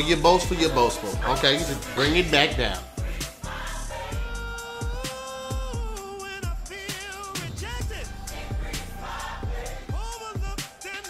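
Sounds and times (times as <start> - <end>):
upbeat music with deep beat: 0.0 - 11.0.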